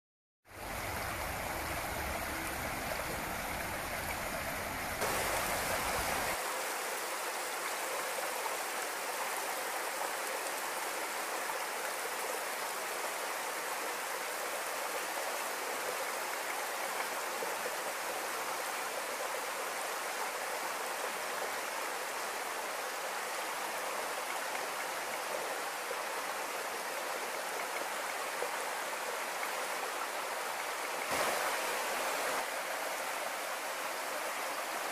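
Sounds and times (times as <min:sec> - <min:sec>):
creek trickling over stones: 0:00.5 - 0:34.9.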